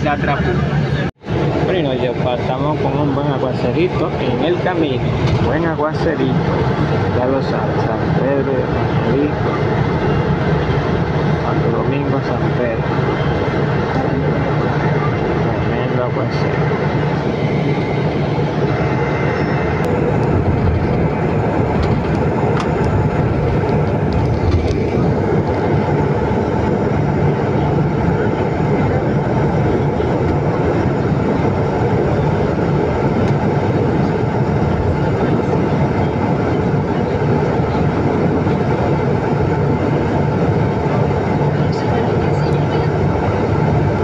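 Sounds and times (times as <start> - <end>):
bus engine and road noise: 0.0 - 44.0.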